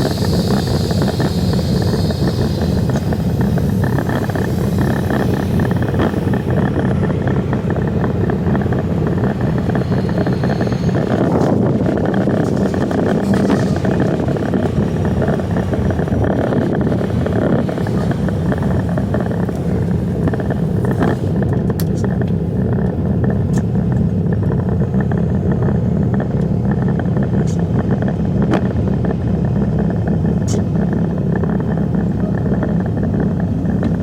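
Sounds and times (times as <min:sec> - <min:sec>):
diesel truck engine running: 0:00.0 - 0:34.0.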